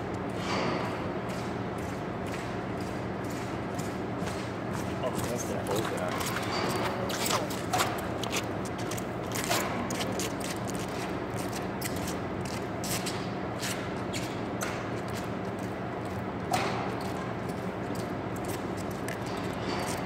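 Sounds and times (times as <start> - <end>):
ventilation hum: 0.0 - 20.0.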